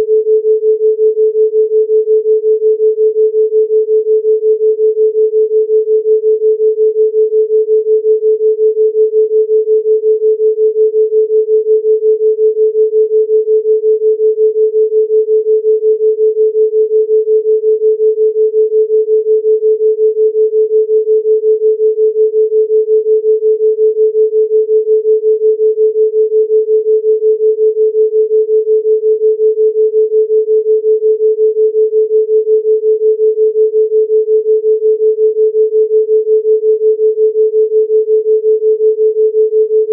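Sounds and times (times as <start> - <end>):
pulsing sine tone: 0.0 - 39.9.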